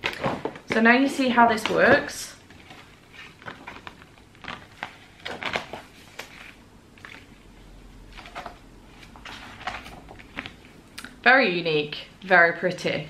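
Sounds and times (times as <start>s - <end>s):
book rustling against plastic sleeve: 0.0s - 11.0s.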